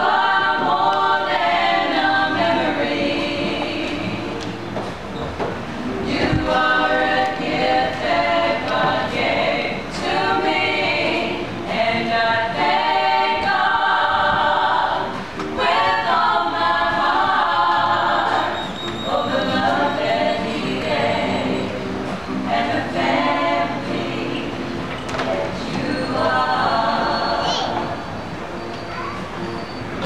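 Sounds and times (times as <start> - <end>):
group singing in harmony: 0.0 - 28.4.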